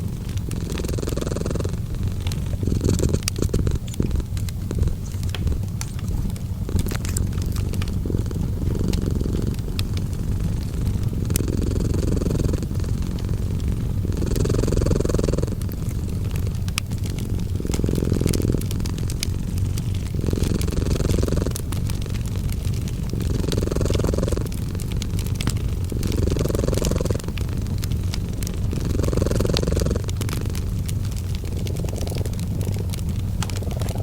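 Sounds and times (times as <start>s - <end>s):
cat purring: 0.0s - 34.0s
wood fire crackling and popping: 0.0s - 34.0s.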